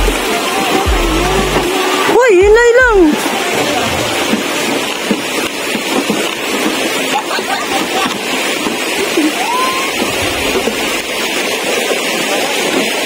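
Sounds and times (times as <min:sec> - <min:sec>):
steady outdoor rushing noise: 0:00.0 - 0:13.0.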